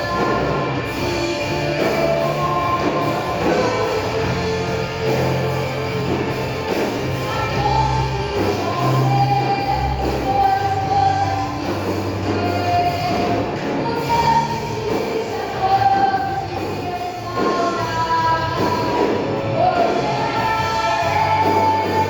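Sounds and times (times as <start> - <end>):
live band playing a hymn: 0.0 - 22.0
person singing: 0.0 - 22.0
steady bass line: 0.0 - 22.0.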